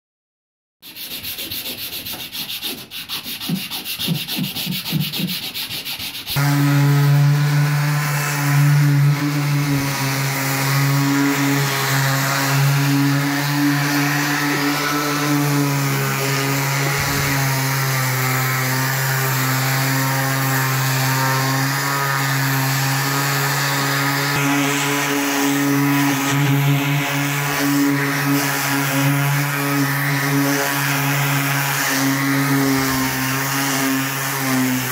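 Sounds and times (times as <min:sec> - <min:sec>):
sanding block rasping: 0:00.8 - 0:34.9
power sander humming: 0:06.3 - 0:34.9.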